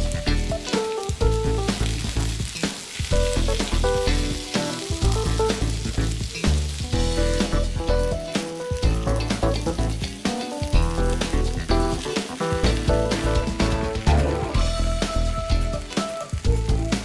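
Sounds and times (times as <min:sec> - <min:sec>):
background music with beat: 0:00.0 - 0:17.0
potatoes sizzling in oil: 0:00.0 - 0:17.0.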